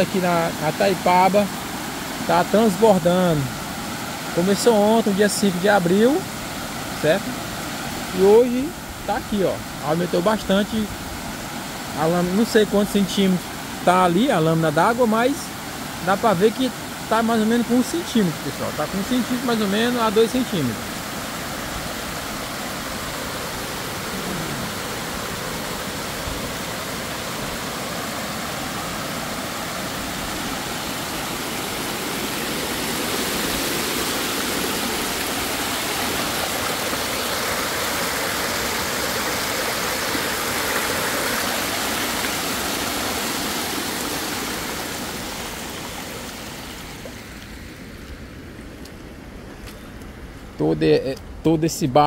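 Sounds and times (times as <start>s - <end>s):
water rushing over spillway: 0.0s - 48.7s.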